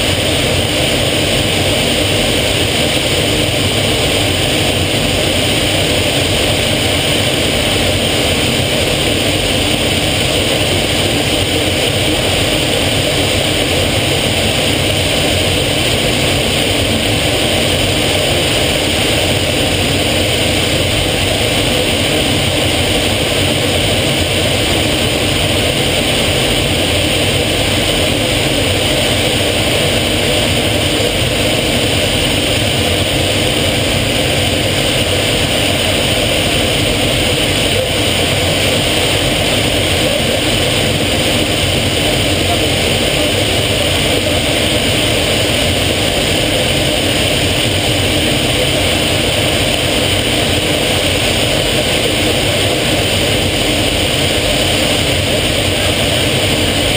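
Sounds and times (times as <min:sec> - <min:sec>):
aircraft engine and airflow noise: 0:00.0 - 0:56.9.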